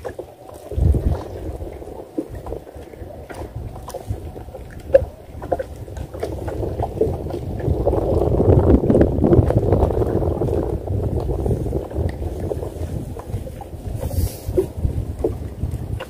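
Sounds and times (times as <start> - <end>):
water lapping against boat: 0.0 - 16.0
wind buffeting microphone: 0.0 - 16.0.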